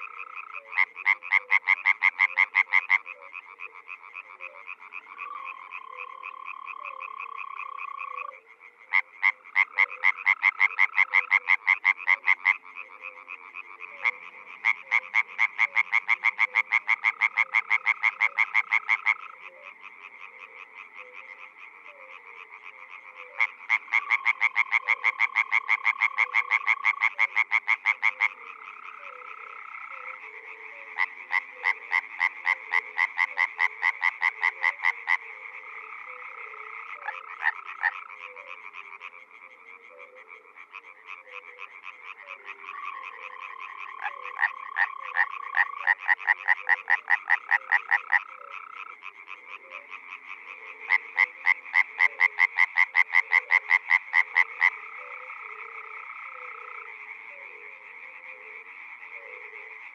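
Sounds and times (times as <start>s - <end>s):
frogs pulsed calls: 0.0s - 59.9s
frogs trilling: 0.0s - 59.9s.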